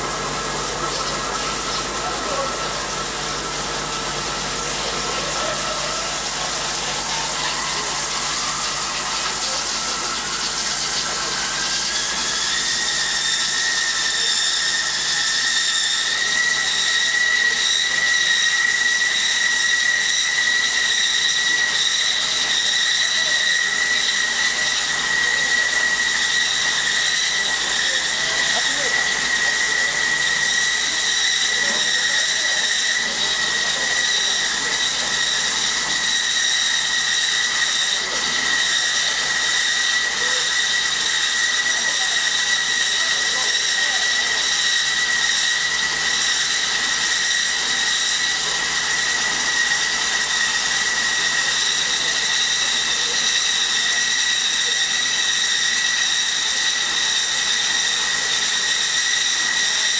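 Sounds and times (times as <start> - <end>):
wire saw whining: 0.0 - 59.9.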